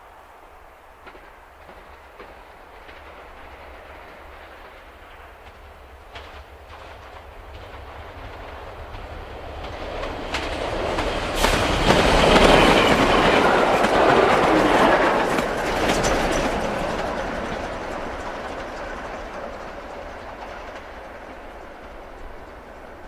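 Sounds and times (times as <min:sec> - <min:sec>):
train passing: 0:00.0 - 0:23.0
train wheels clickety-clack: 0:00.9 - 0:23.0.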